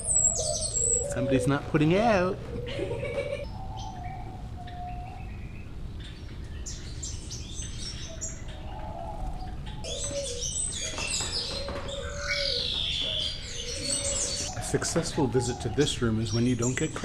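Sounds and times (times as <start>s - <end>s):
doves cooing: 0.0s - 5.9s, 8.0s - 17.0s
small birds chirping: 0.0s - 17.0s.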